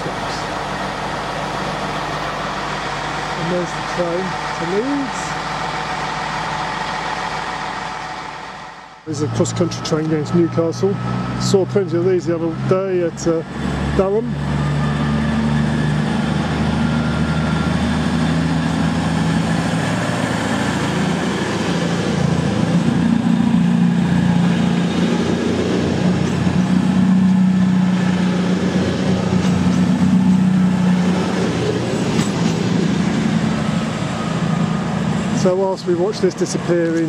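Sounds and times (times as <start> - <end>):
diesel engines humming: 0.0 - 37.0
train rumbling on rails: 0.0 - 37.0.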